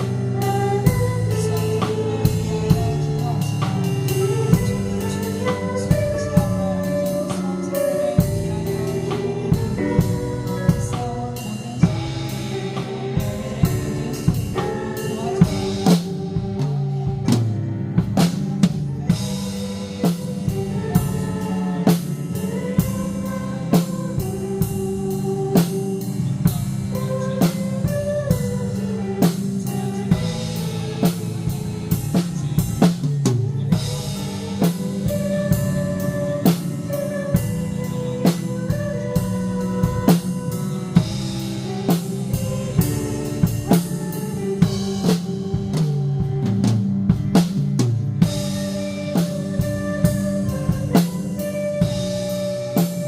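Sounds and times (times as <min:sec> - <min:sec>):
bass: 0:00.0 - 0:53.0
drum kit beat: 0:00.0 - 0:53.0.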